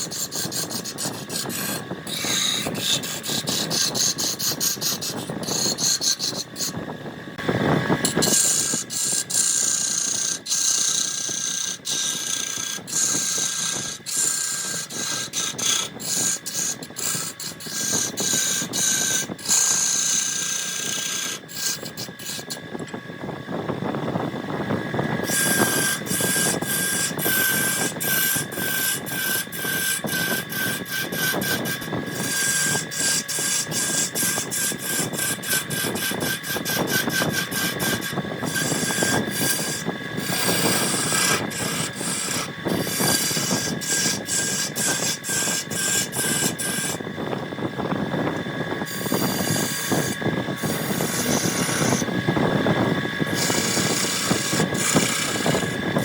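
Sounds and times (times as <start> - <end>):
tool scraping wood: 0.0 - 6.8, 7.4 - 22.9, 25.2 - 47.0, 48.8 - 52.2, 53.2 - 56.0
lathe motor whine: 0.0 - 56.0.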